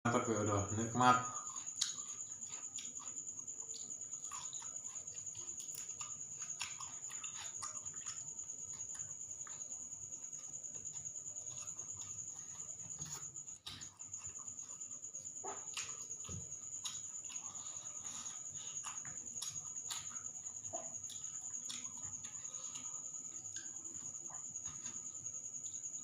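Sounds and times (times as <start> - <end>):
chewing and mouth noises: 1.3 - 26.0.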